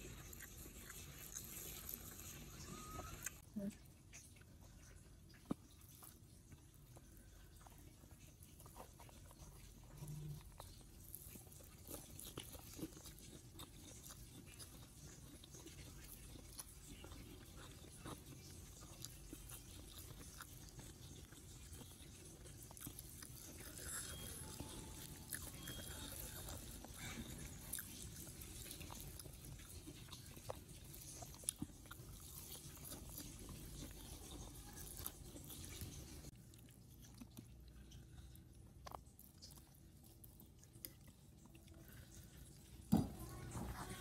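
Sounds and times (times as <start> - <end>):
small crunches and mouth clicks: 0.0 - 42.7
person chewing food: 0.0 - 44.0.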